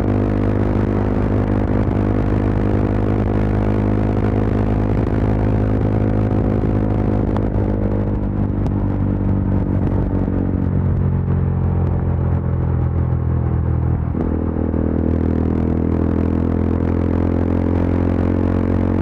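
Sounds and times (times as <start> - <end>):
exhaust crackles: 0.0 - 19.0
motorcycle engine running: 0.0 - 19.0.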